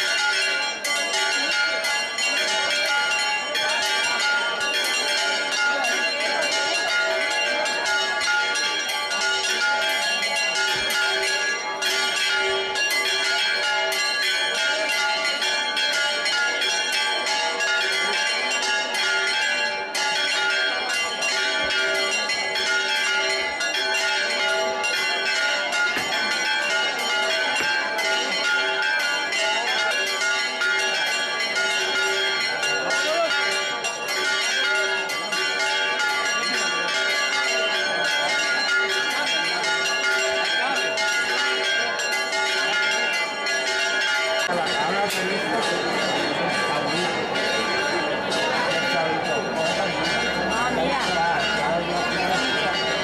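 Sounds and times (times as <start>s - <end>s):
church bells pealing: 0.0s - 53.0s.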